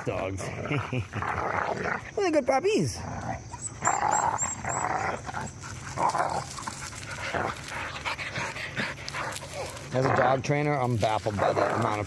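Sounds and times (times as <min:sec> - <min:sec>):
dogs growling and barking in play: 0:00.0 - 0:02.2, 0:02.9 - 0:10.6, 0:11.2 - 0:12.0.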